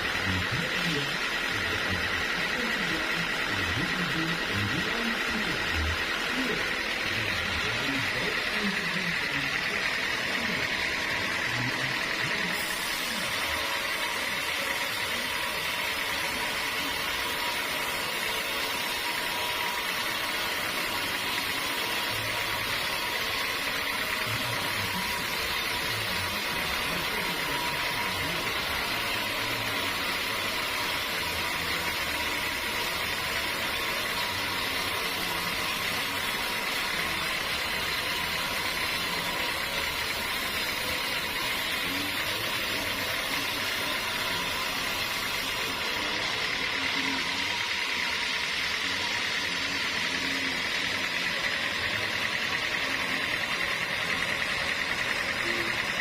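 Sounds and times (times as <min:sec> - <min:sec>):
high machine whine: 0:00.0 - 0:56.0
sawmill machinery running: 0:00.0 - 0:56.0.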